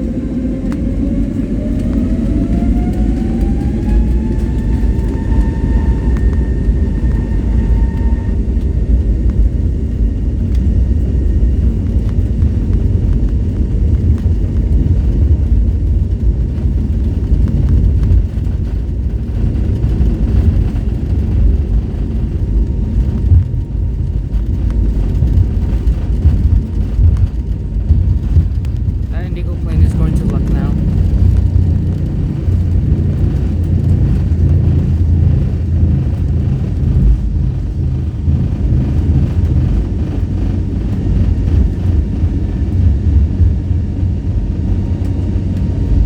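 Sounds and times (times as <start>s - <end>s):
heavy low rumble: 0.0s - 46.0s
jet engines spooling up whine: 0.0s - 46.0s.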